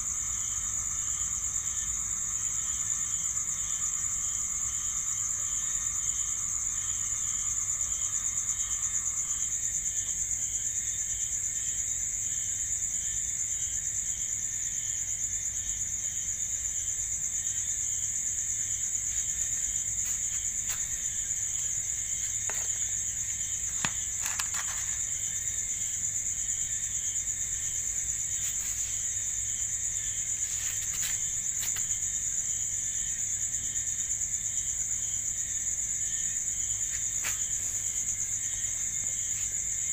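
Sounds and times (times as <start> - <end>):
insects trilling: 0.0 - 39.9
pulsing insect chirp: 0.0 - 39.9.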